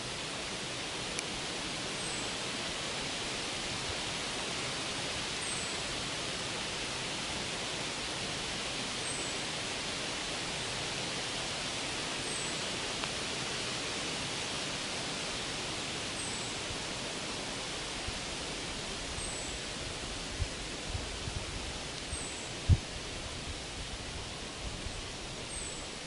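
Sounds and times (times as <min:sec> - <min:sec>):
forest ambience hiss: 0:00.0 - 0:26.0.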